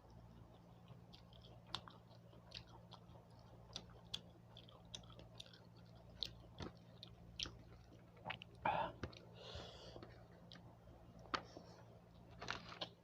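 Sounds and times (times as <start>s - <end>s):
faint low hum: 0.0s - 13.0s
person chewing food: 0.0s - 13.0s.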